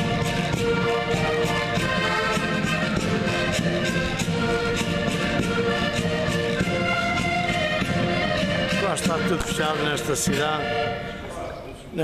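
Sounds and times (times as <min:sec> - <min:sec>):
button accordions playing folk tune: 0:00.0 - 0:11.3.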